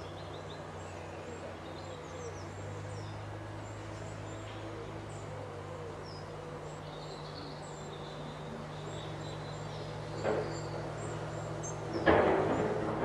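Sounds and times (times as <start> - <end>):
songbirds chirping and whistling: 0.0 - 13.0
steady low hum: 0.0 - 13.0.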